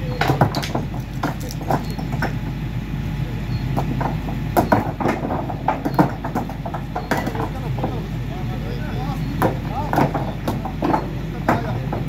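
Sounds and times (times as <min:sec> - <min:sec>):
paving stones clacking: 0:00.0 - 0:02.6, 0:03.4 - 0:12.0
excavator diesel engine running: 0:00.0 - 0:12.0.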